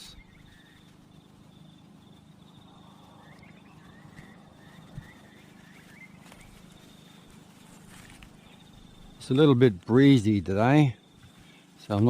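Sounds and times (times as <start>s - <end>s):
low hum: 0.0s - 12.0s
small chirping animal calls: 0.0s - 12.0s.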